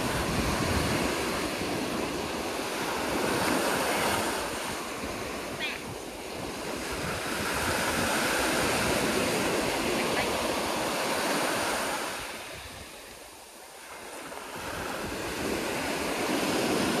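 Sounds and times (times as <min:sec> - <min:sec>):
waves breaking on a beach: 0:00.0 - 0:17.0.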